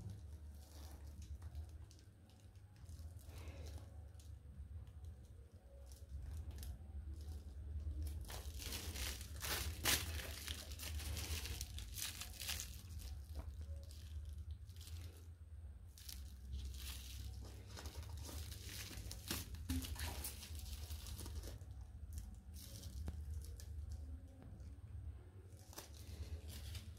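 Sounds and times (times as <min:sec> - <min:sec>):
plastic film crinkling and tearing: 0:00.0 - 0:24.7, 0:25.5 - 0:26.9.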